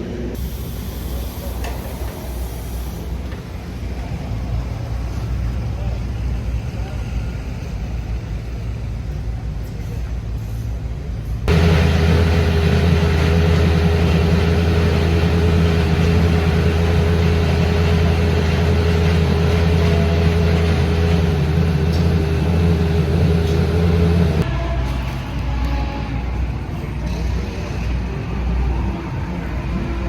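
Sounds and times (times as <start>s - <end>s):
engine droning steadily: 0.0s - 30.0s.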